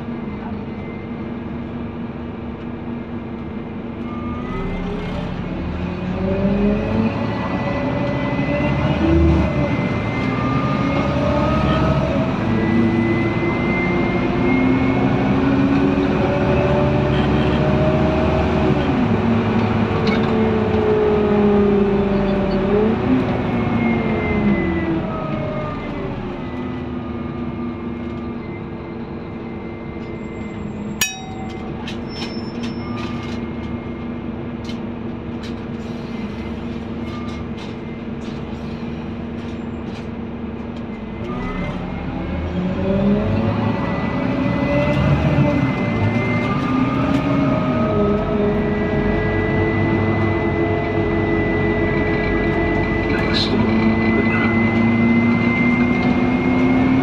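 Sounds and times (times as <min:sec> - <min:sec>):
bus engine and transmission whine: 0:00.0 - 0:57.0.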